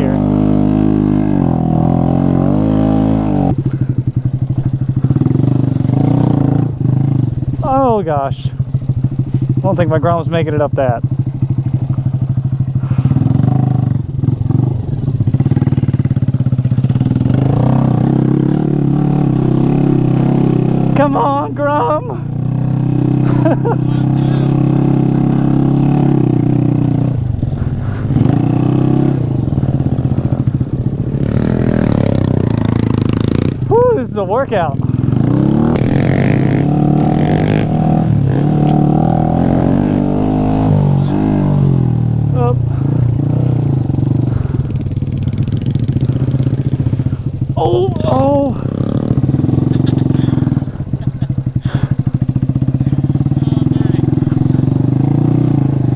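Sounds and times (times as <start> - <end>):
motorcycle engine running under load: 0.0 - 55.9.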